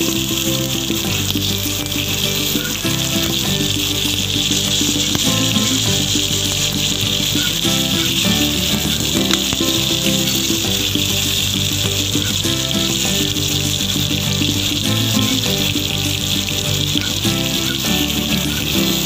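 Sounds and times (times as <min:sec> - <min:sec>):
background music: 0:00.0 - 0:19.0
fish frying in hot oil: 0:00.0 - 0:19.0.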